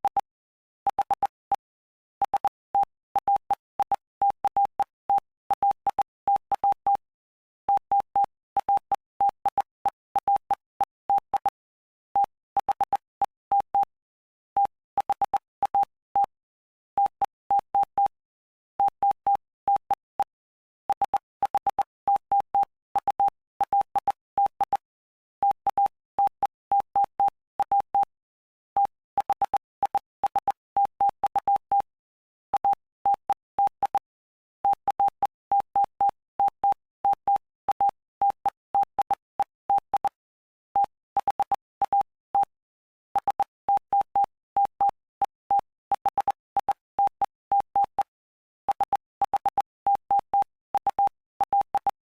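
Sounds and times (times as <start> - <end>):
morse code beeps: 0.9 - 7.0, 7.7 - 11.6, 12.2 - 13.9, 17.0 - 18.2, 18.8 - 24.8, 25.4 - 28.1, 28.8 - 31.9, 32.5 - 40.2, 40.8 - 42.6, 43.2 - 48.1, 48.7 - 52.0.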